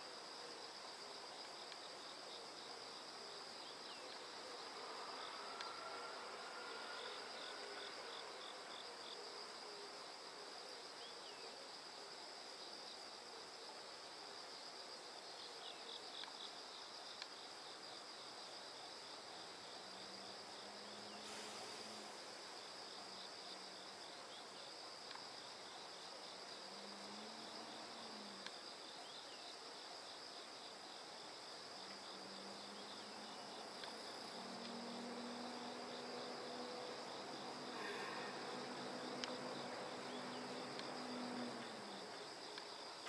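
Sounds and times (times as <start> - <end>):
insects chirping in chorus: 0.0 - 43.0.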